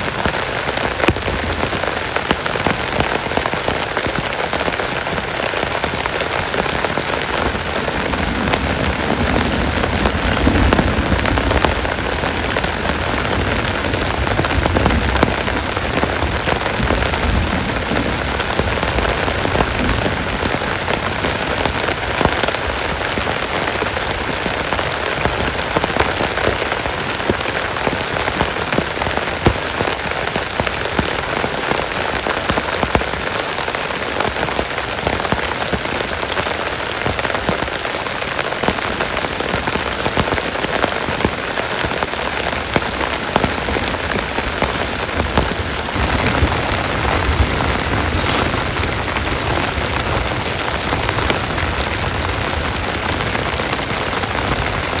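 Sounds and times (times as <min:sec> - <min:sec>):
heavy rain: 0:00.0 - 0:55.0
raindrops ticking on a surface: 0:00.0 - 0:55.0.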